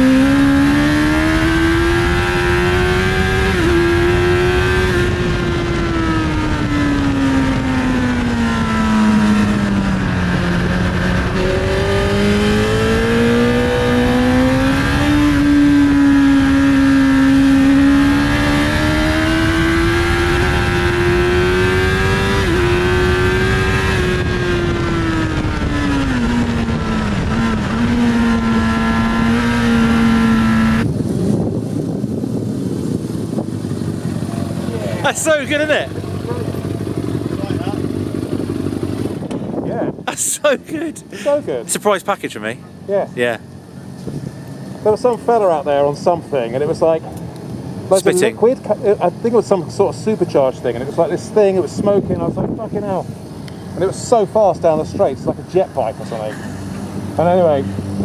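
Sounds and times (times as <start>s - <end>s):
motorcycle engine at high revs: 0.0s - 41.6s, 42.6s - 58.0s
rush of wind: 0.0s - 41.9s, 42.6s - 48.6s, 50.5s - 58.0s.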